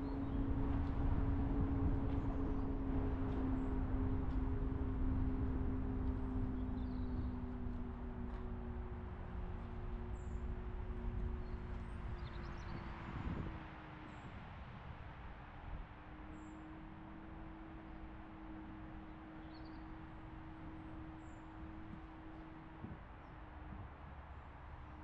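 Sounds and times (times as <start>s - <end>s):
car engine hum: 0.0s - 25.0s
road rumble: 0.0s - 25.0s.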